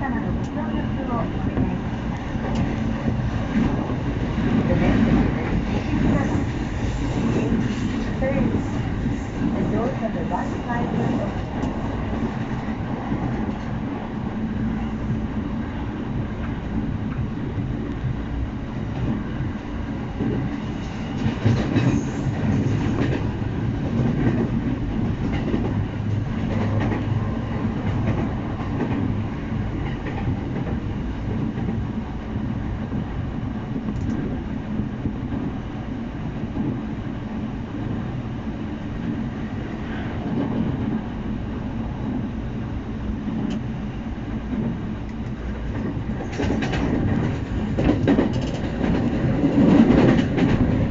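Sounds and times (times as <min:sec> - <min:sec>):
train rumble: 0:00.0 - 0:50.9.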